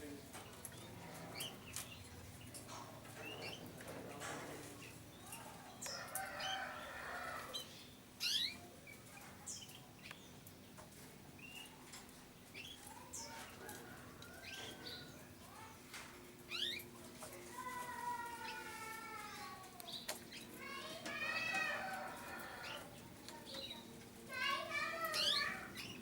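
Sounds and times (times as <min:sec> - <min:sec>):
canaries chirping and twittering: 0:00.1 - 0:18.7, 0:19.8 - 0:26.0.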